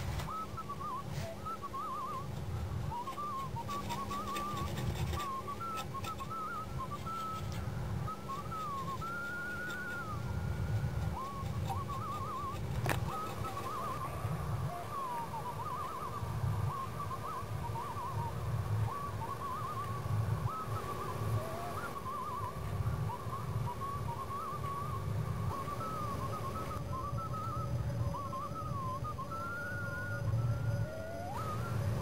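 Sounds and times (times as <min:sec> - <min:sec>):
whistle-like melody with trills: 0:00.0 - 0:32.0.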